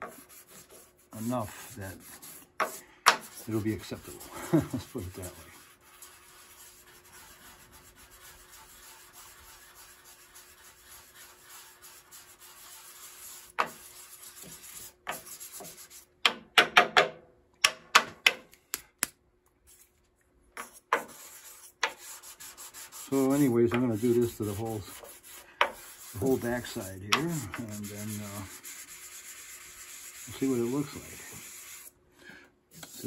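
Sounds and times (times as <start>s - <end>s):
sandpaper scratching on wood: 0.0s - 16.1s, 20.6s - 32.0s, 32.8s - 33.0s.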